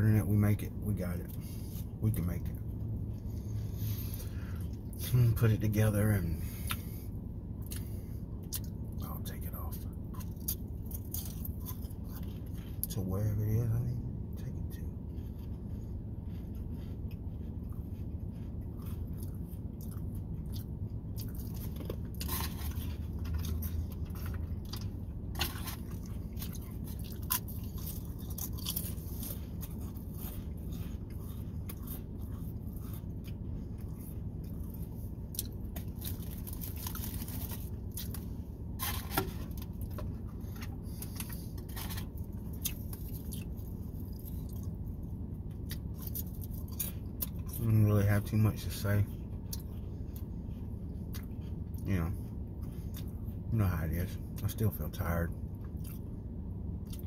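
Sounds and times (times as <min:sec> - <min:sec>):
person chewing crunchy crackers: 0:00.2 - 0:53.6, 0:55.4 - 0:57.0.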